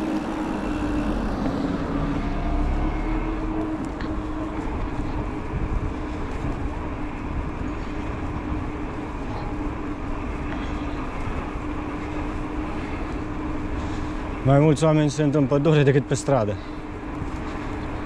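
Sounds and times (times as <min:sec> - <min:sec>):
bike riding noise and wind: 0:00.0 - 0:18.0
low motor hum: 0:00.0 - 0:18.0.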